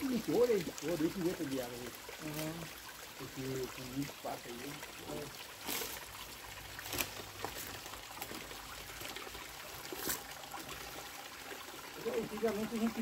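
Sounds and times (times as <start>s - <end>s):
waterfall splashing into pool: 0.0s - 13.0s.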